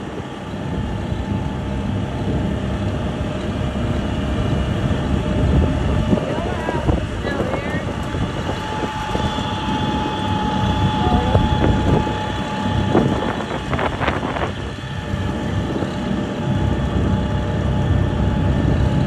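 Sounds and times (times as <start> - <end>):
faint steady whine: 0.0 - 19.0
vehicle engine and tyres rumbling: 0.0 - 19.0
wind on microphone: 0.0 - 19.0.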